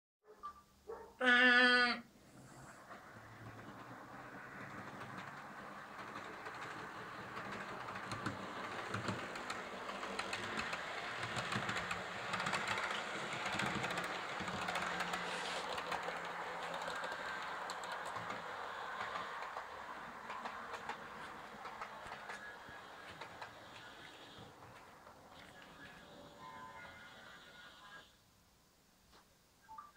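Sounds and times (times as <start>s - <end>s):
model train wheels clicking: 2.7s - 28.1s.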